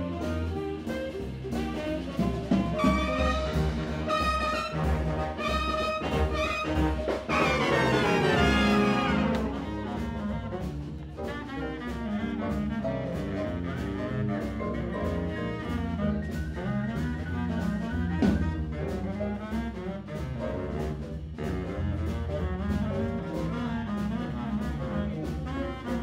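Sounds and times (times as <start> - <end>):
big band playing swing jazz: 0.0 - 26.0.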